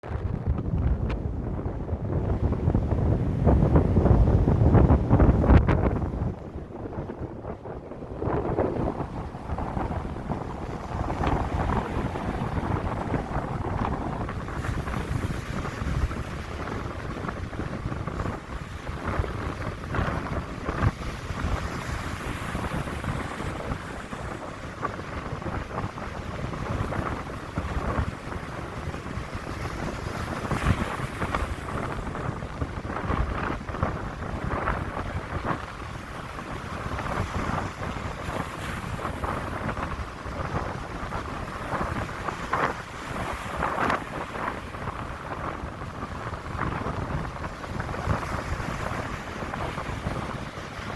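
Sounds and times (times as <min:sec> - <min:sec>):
wind buffeting microphone: 0:00.0 - 0:50.9
waves washing: 0:02.3 - 0:50.9.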